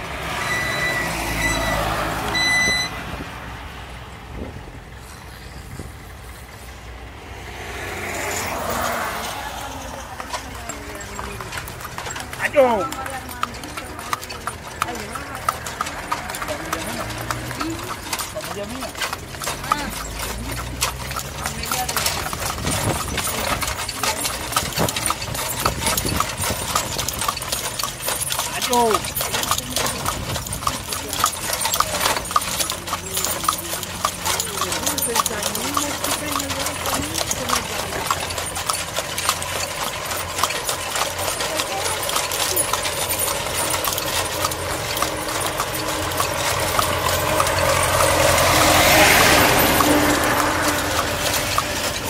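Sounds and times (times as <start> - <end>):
horse hooves on pavement: 0.0 - 52.0
motor vehicle approaching: 0.0 - 52.0
cart rolling: 7.5 - 52.0.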